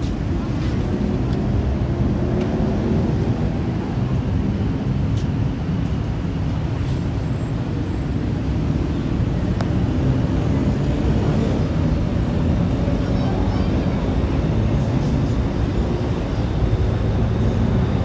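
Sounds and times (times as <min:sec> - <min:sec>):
city road traffic rumble: 0:00.0 - 0:18.0.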